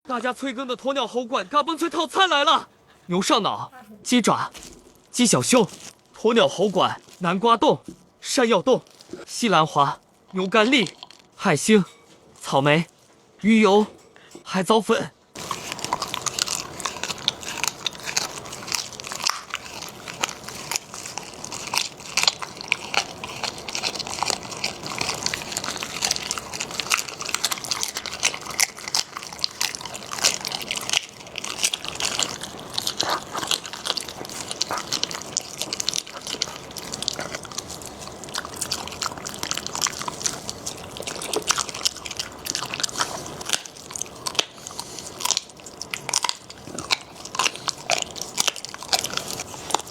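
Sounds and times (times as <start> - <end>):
dog crunching and chewing bones: 4.4 - 13.2, 15.3 - 49.9.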